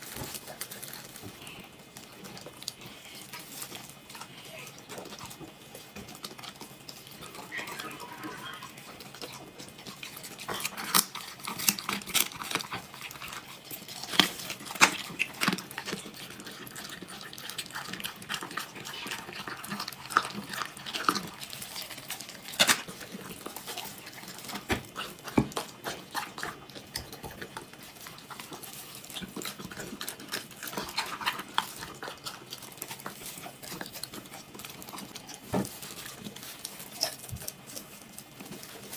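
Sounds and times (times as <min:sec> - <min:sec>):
dog chewing wetly: 0:00.0 - 0:38.9.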